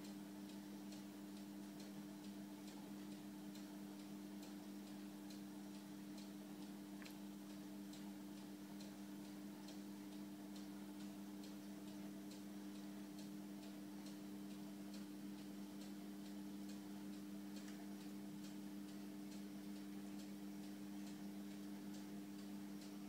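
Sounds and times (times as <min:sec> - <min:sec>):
faint equipment hum: 0:00.0 - 0:23.0.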